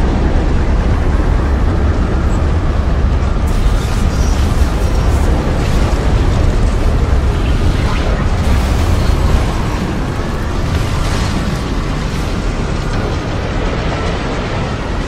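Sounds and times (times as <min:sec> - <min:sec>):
dense wind noise: 0:00.0 - 0:15.0
heavy low rumble: 0:00.0 - 0:15.0.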